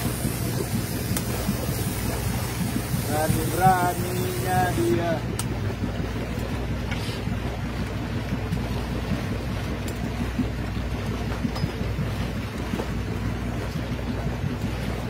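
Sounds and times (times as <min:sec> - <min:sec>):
boat engine running: 0:00.0 - 0:15.0
water washing around hull: 0:00.0 - 0:15.0.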